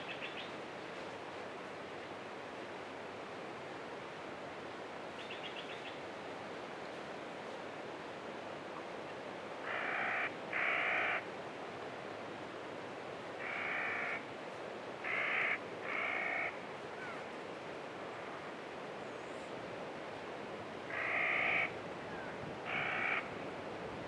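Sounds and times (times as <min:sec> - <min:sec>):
desert ambience hiss: 0:00.0 - 0:24.0.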